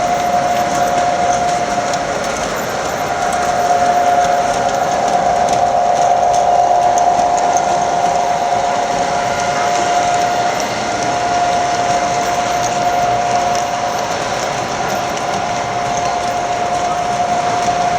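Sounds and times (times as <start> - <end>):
electric motor whine: 0.0 - 17.9
wheels rolling on rail: 0.0 - 17.9.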